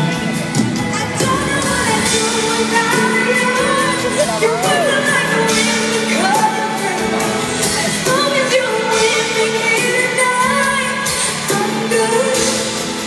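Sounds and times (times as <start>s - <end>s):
woman singing: 0.7s - 13.0s.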